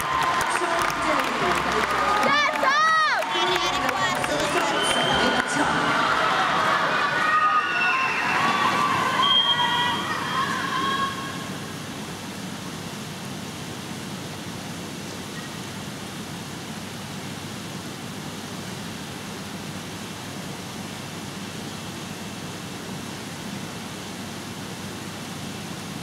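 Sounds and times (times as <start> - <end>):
indoor pool hall hiss: 0.0 - 26.0.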